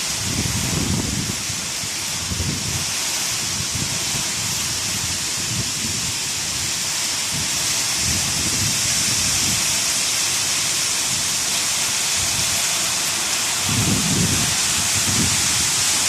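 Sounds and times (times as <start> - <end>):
hail and heavy rain pelting: 0.0 - 16.0
strong wind gusting: 0.0 - 16.0.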